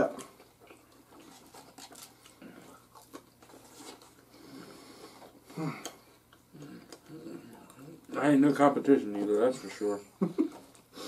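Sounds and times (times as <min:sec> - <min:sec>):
chewing and crunching food: 0:00.0 - 0:11.0.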